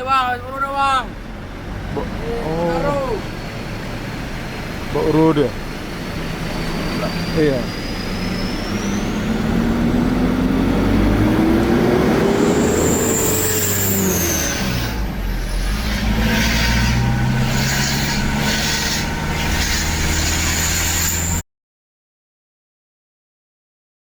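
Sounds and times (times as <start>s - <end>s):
diesel truck engine revving: 0.0s - 21.4s.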